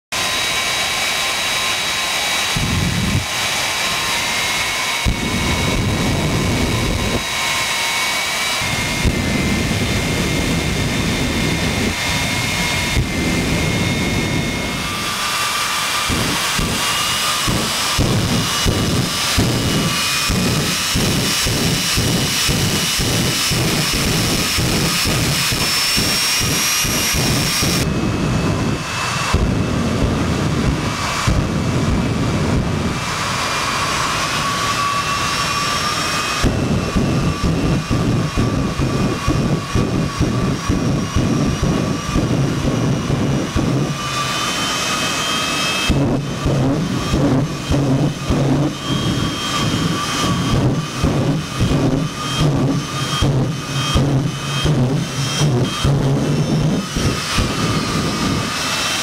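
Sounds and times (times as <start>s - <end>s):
jet engine whine and rumble: 0.0s - 59.0s.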